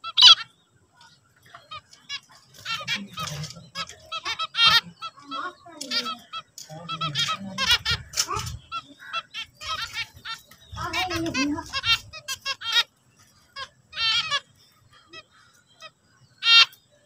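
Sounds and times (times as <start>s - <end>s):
finches calling and singing: 0.0s - 17.0s.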